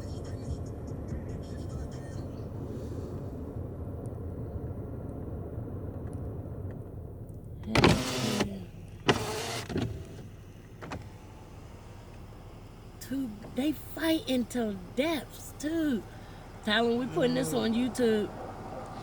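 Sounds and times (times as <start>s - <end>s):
car cabin hum: 0.0s - 19.0s.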